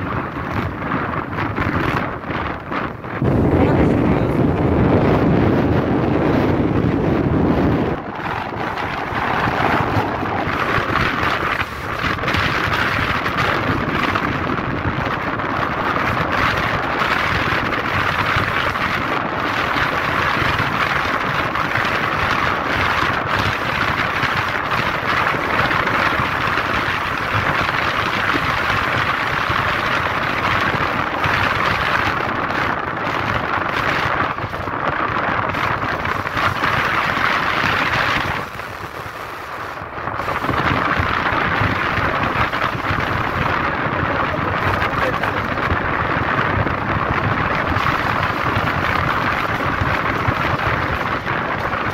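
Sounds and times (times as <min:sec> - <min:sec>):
heavy low rumble: 0:00.0 - 0:51.9
vehicle road noise: 0:00.0 - 0:51.9
wind rushing over microphone: 0:00.0 - 0:51.9.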